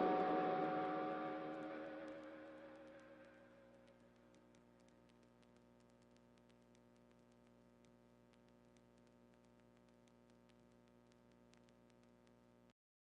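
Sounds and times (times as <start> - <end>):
faint electrical hum and hiss: 0.0 - 12.7
faint ticks: 2.1 - 12.8.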